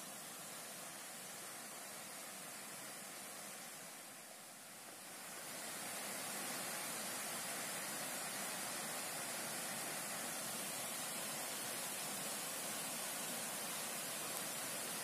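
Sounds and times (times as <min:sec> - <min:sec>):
flowing water hiss: 0:00.0 - 0:15.0.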